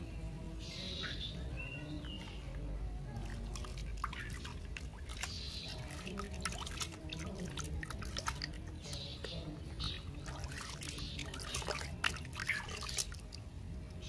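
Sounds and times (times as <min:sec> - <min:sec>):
water splashing in a basin: 0:02.3 - 0:14.0.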